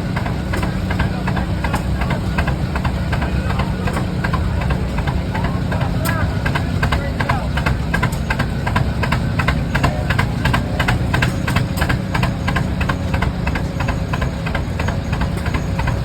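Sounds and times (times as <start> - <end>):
tractor engines running: 0.0 - 16.0.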